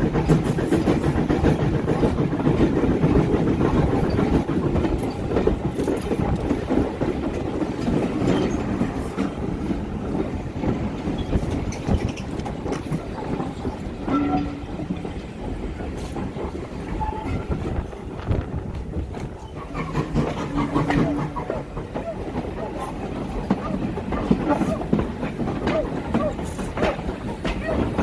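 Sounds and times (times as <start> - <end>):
train rumbling: 0.0 - 28.0
wheels clattering over rail joints: 0.0 - 28.0.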